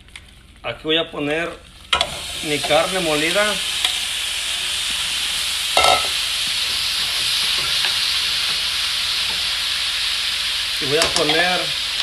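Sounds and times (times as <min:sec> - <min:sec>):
meat sizzling in a pot: 0:01.7 - 0:12.0.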